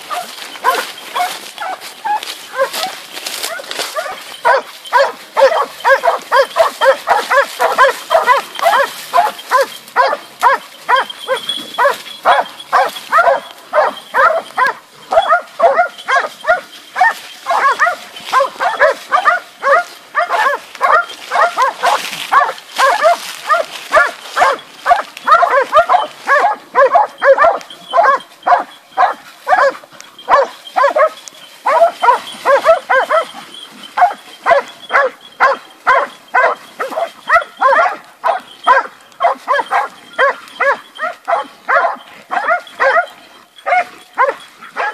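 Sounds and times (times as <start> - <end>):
dogs barking rapidly: 0.0 - 44.9.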